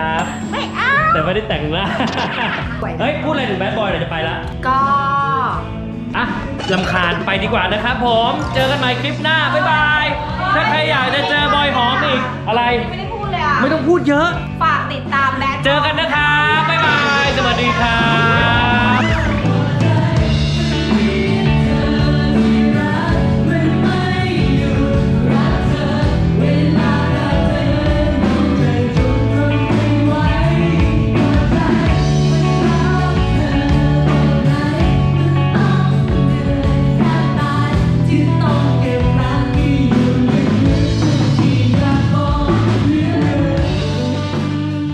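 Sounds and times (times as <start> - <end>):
man and woman singing duet: 0.0 - 14.4, 15.5 - 44.9
pop backing track with beat: 0.0 - 44.9.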